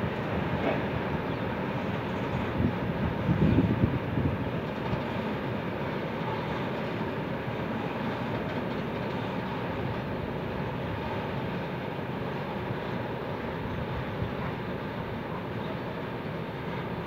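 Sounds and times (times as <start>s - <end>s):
train wagons rolling over bridge: 0.0s - 17.0s.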